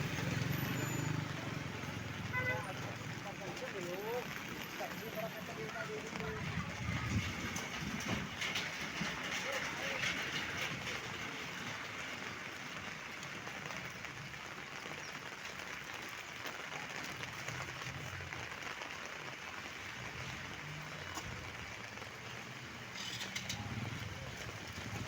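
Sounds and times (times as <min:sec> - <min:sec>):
heavy rain pattering: 0:00.0 - 0:25.0.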